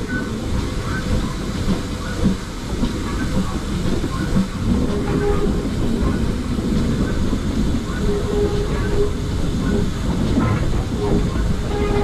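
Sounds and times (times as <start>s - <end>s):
train clicks and clatter: 0.0s - 12.0s
train wheels rumbling on rail: 0.0s - 12.0s.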